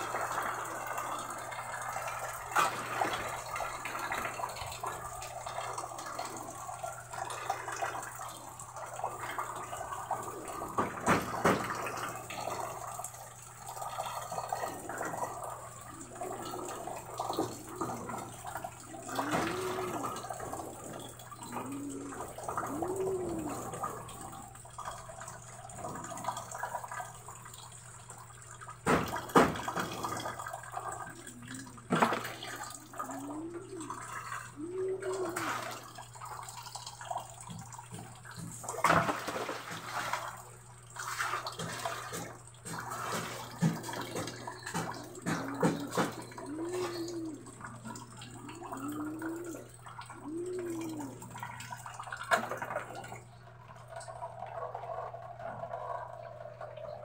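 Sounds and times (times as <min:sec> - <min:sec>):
water splashing onto concrete: 0:00.0 - 0:27.8, 0:28.6 - 0:53.3.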